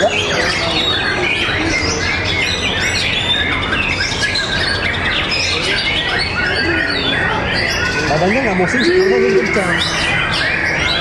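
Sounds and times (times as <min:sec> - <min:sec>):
songbirds whistling and trilling: 0:00.0 - 0:11.0.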